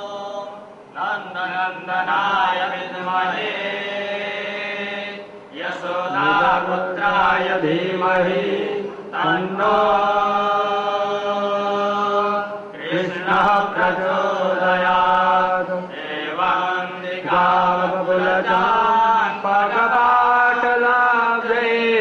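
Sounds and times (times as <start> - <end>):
person chanting: 0.0 - 22.0.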